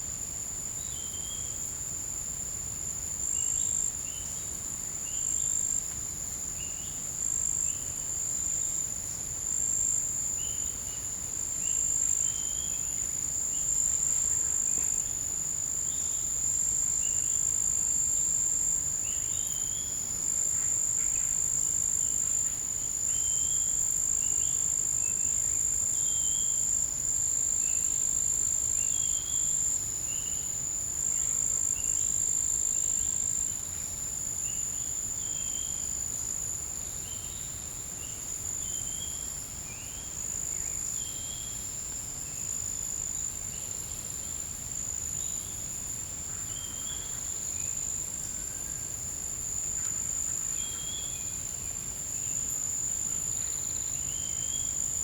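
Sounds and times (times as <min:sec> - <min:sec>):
high-pitched insect trill: 0:00.2 - 0:55.0.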